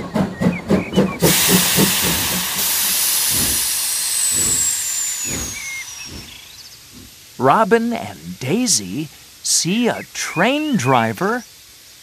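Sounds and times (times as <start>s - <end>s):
steam train chugging puffs: 0.0s - 12.0s
steam hissing: 1.2s - 12.0s.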